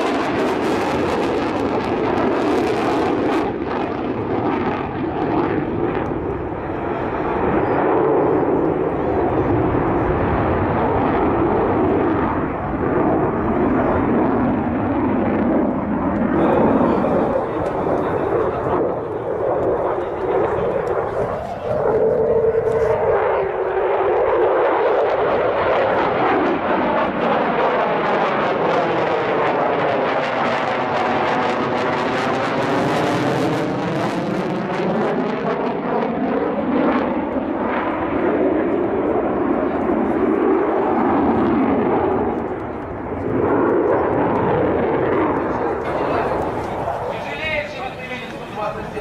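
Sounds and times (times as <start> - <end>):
aircraft engine noise: 0.0 - 49.0.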